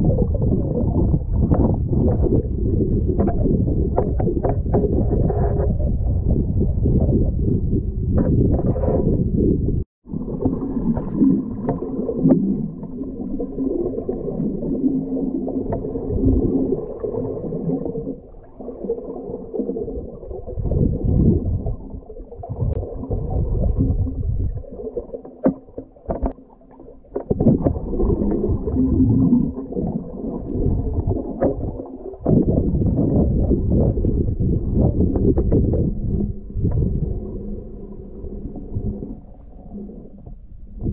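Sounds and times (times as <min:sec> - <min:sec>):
underwater rumble of moving water: 0:00.0 - 0:40.9.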